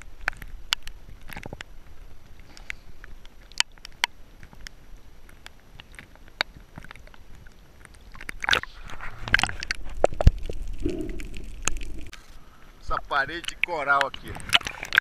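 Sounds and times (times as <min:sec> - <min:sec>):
rushing water noise: 0:00.0 - 0:15.0
sharp crackling clicks underwater: 0:00.0 - 0:15.0.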